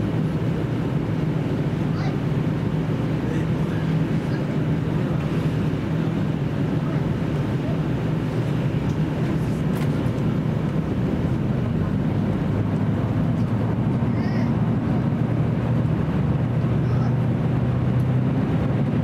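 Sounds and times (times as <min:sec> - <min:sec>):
diesel engine drone: 0:00.0 - 0:19.0
wheel and rail rumble: 0:00.0 - 0:19.0.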